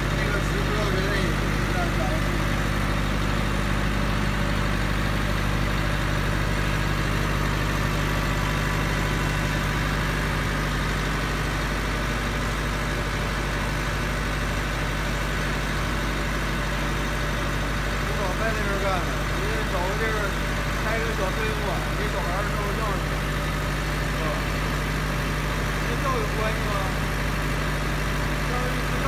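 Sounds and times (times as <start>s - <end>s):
diesel generator running: 0.0s - 29.0s.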